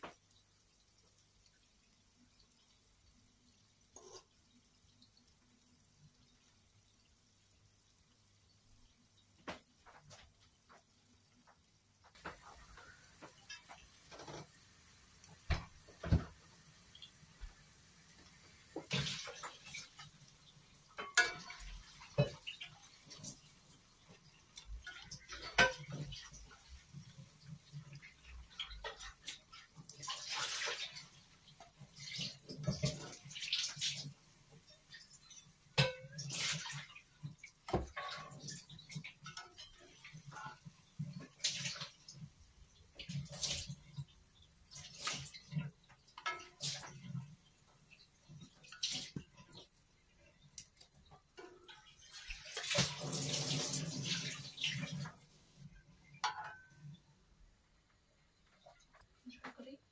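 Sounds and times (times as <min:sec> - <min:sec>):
hot oil sizzling: 0:00.0 - 0:57.0.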